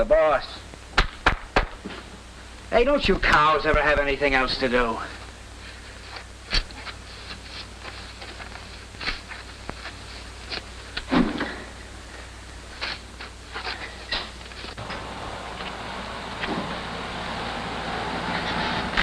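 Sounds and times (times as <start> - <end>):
film soundtrack hiss: 0.0 - 19.0.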